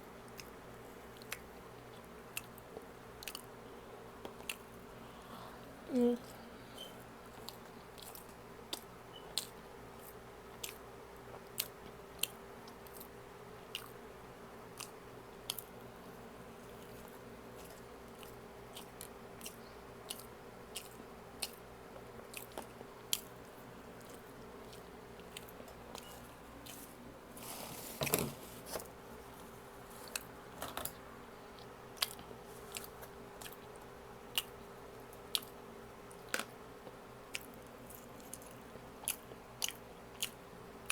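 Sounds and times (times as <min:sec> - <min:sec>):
faint steady hum: 0:00.0 - 0:40.9
person chewing food: 0:00.3 - 0:03.6, 0:04.2 - 0:04.8, 0:06.8 - 0:14.0, 0:14.7 - 0:15.8, 0:16.6 - 0:27.0, 0:28.8 - 0:40.9.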